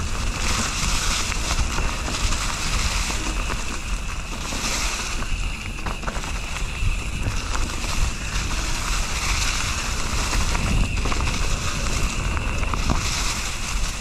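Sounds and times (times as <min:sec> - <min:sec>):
bike clicks and rattles: 0:00.0 - 0:14.0
bike tyre noise: 0:00.0 - 0:14.0
wind on microphone: 0:00.0 - 0:14.0.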